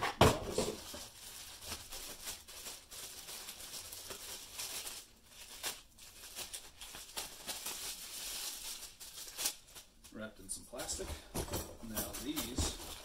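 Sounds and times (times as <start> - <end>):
plastic bags crinkling: 0.4 - 13.0.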